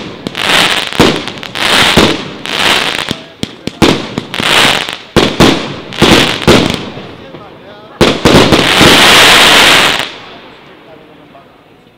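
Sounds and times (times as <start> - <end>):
firework bangs: 0.0 - 10.8.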